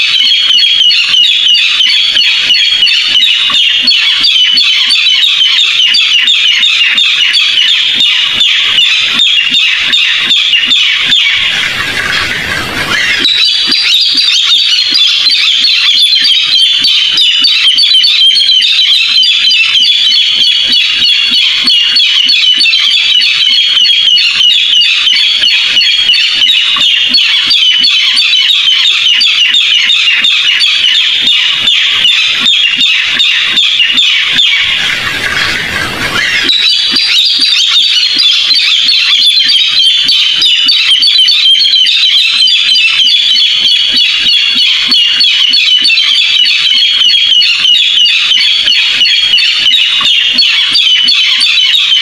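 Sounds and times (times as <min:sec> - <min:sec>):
rail bird calls: 0:00.0 - 0:52.0.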